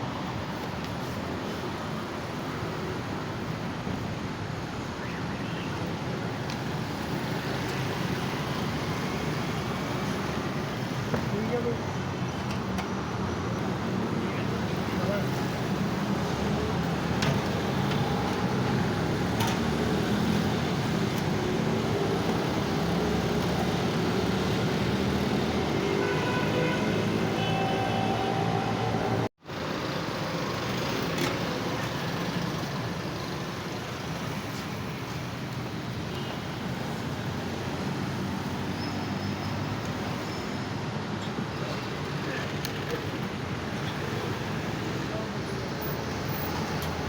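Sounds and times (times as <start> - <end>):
road traffic noise: 0.0 - 47.0.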